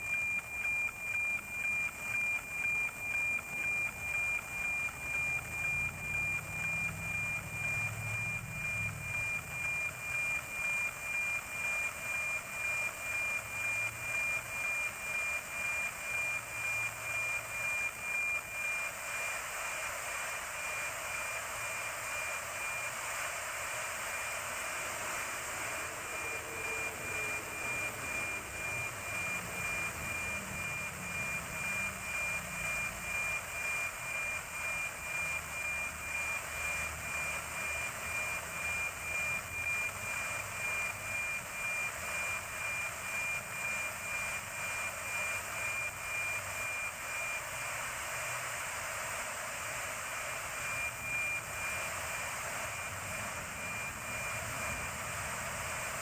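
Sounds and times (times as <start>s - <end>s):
steady tone with ticking: 0.0s - 56.0s.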